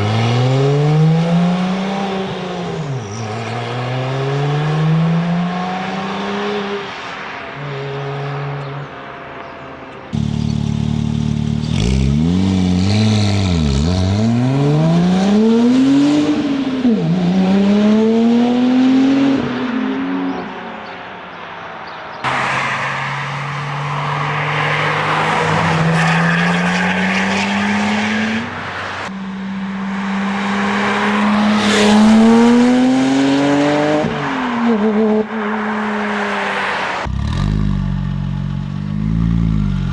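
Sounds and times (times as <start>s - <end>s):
car engine revving: 0.0s - 6.8s, 10.1s - 19.6s, 22.2s - 39.9s.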